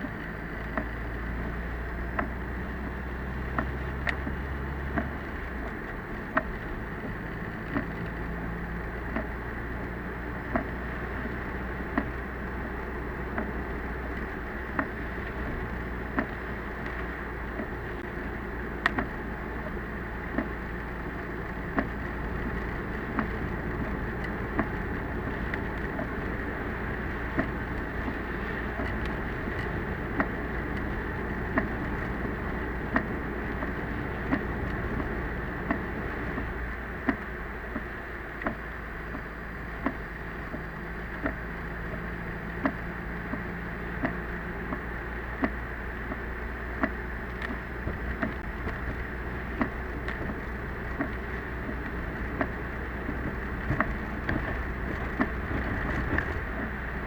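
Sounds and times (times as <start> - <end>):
car cabin noise: 0.0 - 57.0.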